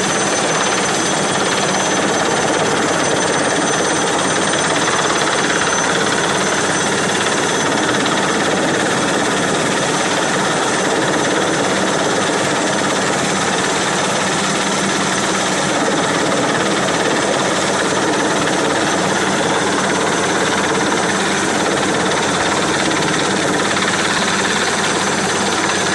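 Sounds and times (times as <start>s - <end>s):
helicopter rotor and engine: 0.0s - 25.9s.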